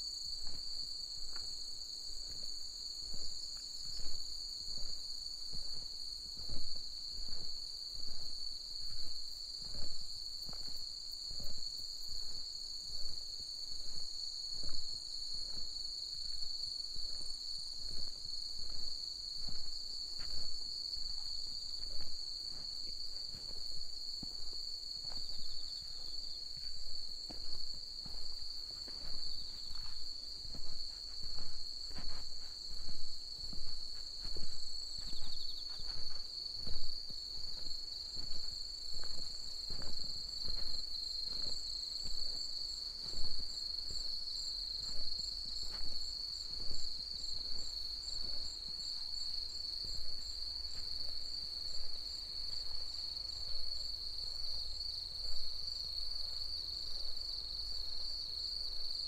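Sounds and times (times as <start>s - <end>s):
high insect chorus: 0.0s - 59.0s
footsteps walking: 0.3s - 55.6s.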